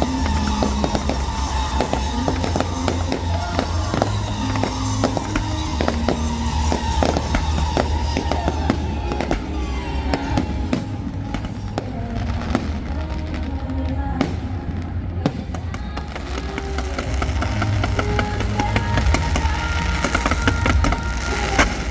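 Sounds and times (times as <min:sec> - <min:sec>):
fireworks bangs and crackles: 0:00.0 - 0:21.9
music: 0:00.0 - 0:21.9.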